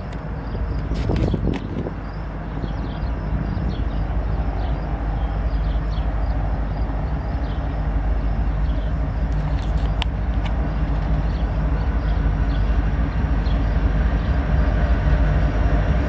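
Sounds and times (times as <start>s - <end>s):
diesel locomotive engine drone: 0.0s - 16.0s
train rumbling: 0.0s - 16.0s.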